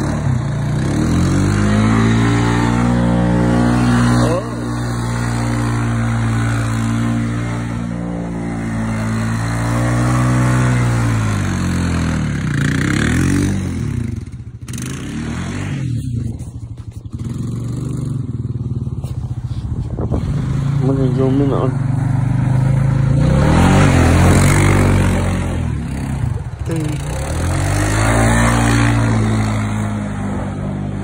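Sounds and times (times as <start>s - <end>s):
atv engine revving and idling: 0.0s - 31.0s.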